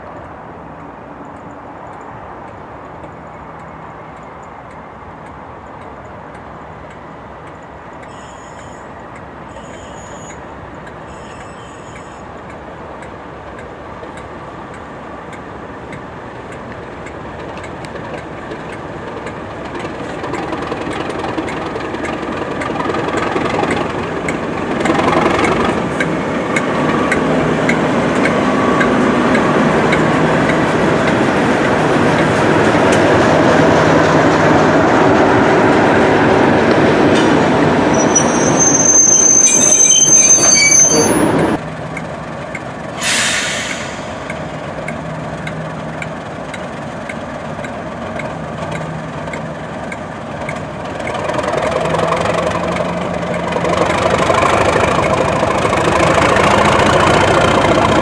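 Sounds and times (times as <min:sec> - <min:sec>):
wheels clicking over rail joints: 0:00.0 - 0:35.4, 0:41.6 - 0:43.0, 0:44.2 - 0:58.0
diesel locomotive engine running: 0:00.0 - 0:58.0.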